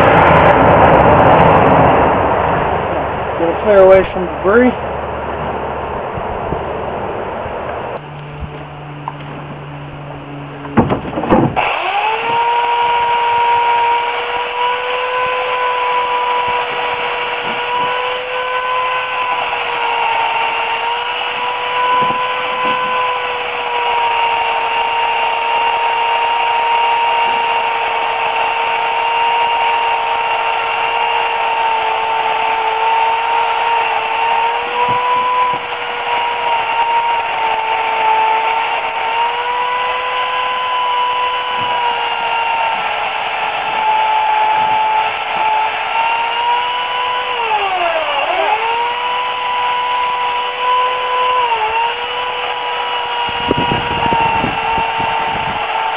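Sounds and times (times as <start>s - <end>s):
electric chainsaw cutting tree: 0.0s - 6.6s, 7.2s - 55.9s.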